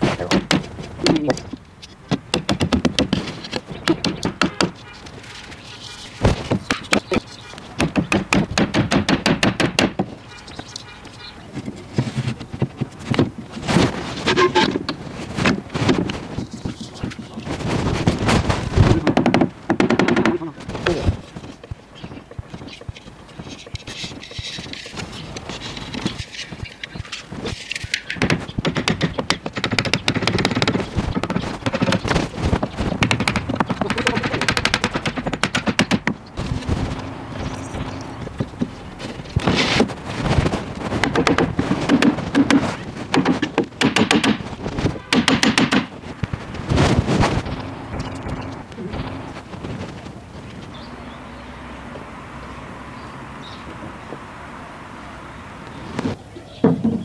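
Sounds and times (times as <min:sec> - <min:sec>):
wood panels scraping and knocking: 0:00.0 - 0:50.8, 0:55.9 - 0:57.0.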